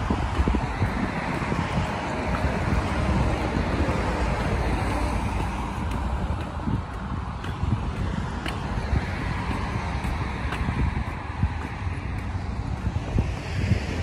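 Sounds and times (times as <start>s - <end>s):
road traffic passing: 0.0s - 14.0s
wind rumbling on microphone: 0.0s - 14.0s.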